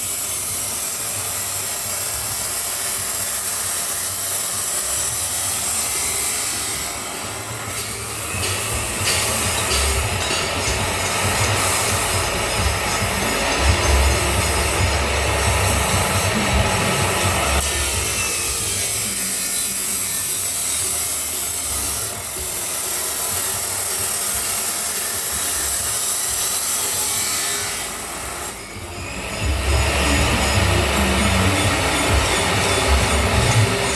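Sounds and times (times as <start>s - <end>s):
grinder disc cutting metal pipe: 0.0s - 33.9s.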